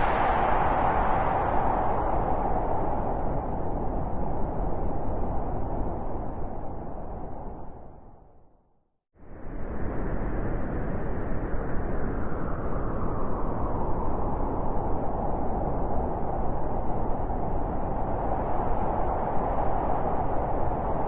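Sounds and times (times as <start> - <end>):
steady wind blowing: 0.0 - 8.5, 9.2 - 21.0.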